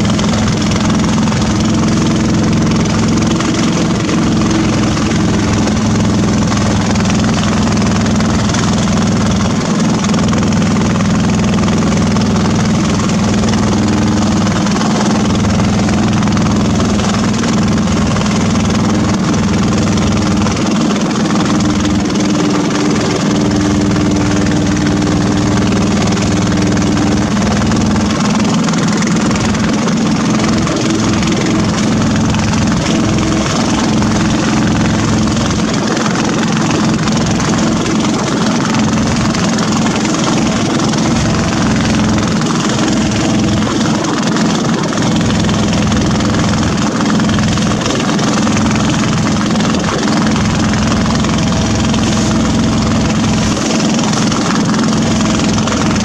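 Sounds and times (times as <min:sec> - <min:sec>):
boat engine drone: 0:00.0 - 0:56.0
water rushing: 0:00.0 - 0:56.0.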